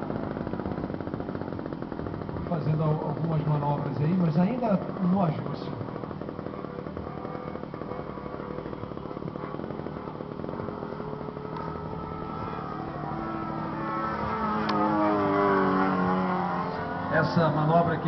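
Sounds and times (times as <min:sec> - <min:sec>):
model airplane engine: 0:00.0 - 0:18.0.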